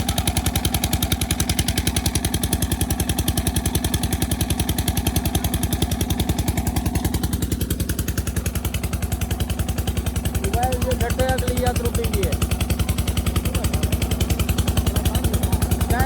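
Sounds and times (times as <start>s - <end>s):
oil engine running: 0.0s - 16.0s.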